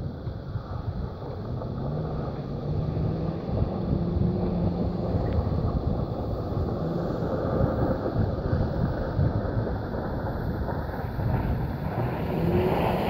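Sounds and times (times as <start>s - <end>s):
vehicle engine hum: 0.0s - 13.0s
wind rumbling on microphone: 0.0s - 13.0s.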